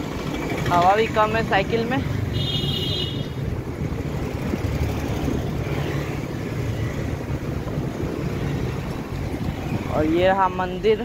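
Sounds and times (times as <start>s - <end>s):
road and traffic noise: 0.0s - 11.0s
wind buffeting microphone: 0.0s - 11.0s.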